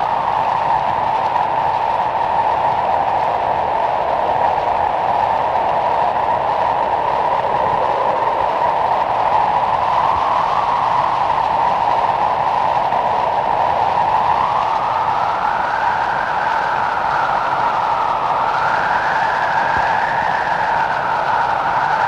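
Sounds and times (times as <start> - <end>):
wind blowing: 0.0 - 22.0.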